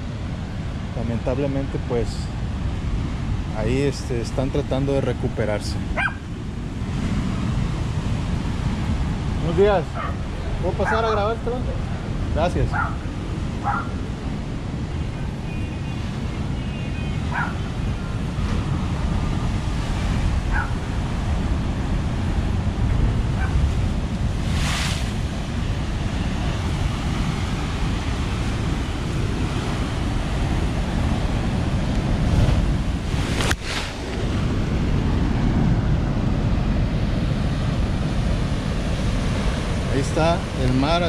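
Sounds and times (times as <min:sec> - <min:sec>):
surf breaking on shore: 0:00.0 - 0:41.0
wind buffeting microphone: 0:02.2 - 0:41.0.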